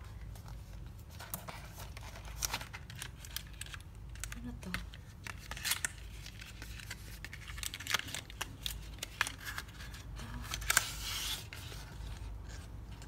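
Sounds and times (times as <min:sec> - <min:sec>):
cardboard and paper rustling: 0:00.0 - 0:13.0.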